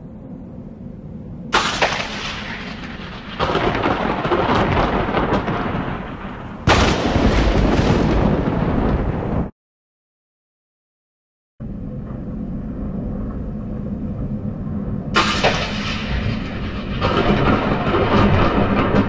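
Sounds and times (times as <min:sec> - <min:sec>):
thunder cracking and rolling: 0:01.4 - 0:09.5, 0:11.6 - 0:19.0.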